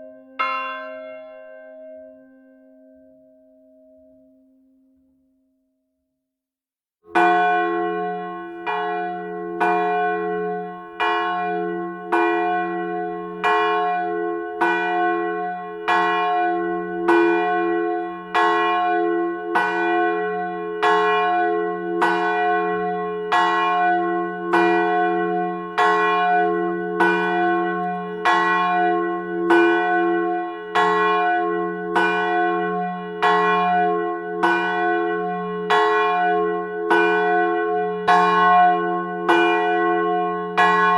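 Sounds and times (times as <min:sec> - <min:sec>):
church bell tolling: 0:00.0 - 0:04.6, 0:07.1 - 0:40.9.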